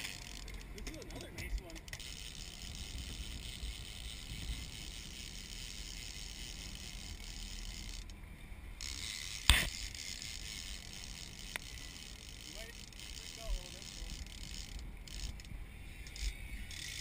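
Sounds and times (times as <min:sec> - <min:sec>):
fishing reel drag clicking: 0:00.0 - 0:17.0.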